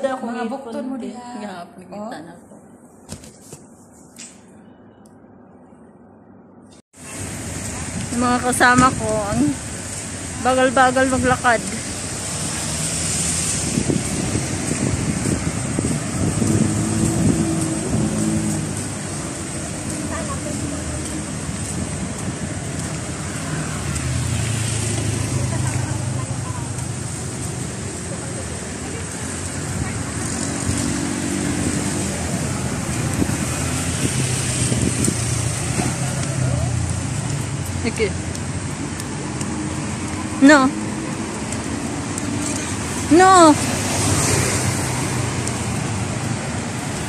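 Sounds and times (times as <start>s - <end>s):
street noise: 0.0s - 47.0s
vehicles passing: 2.5s - 47.0s.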